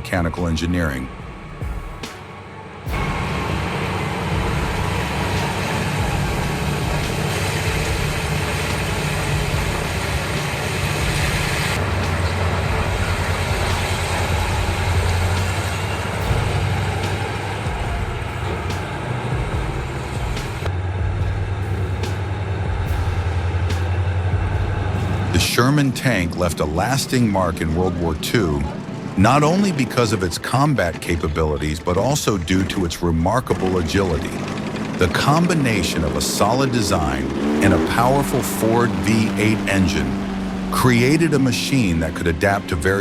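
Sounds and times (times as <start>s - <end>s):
diesel engine low rumble: 0.0s - 43.0s
engine hiss: 0.0s - 43.0s.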